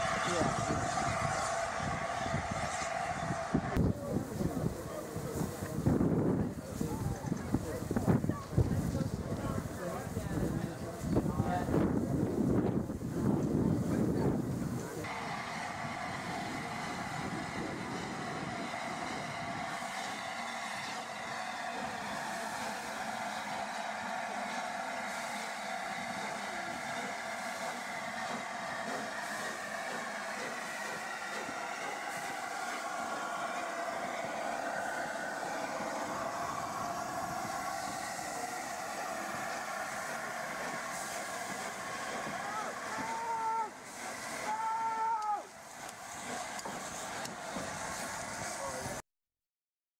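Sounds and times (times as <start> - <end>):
steam locomotive hiss and rumble: 0.0 - 49.0.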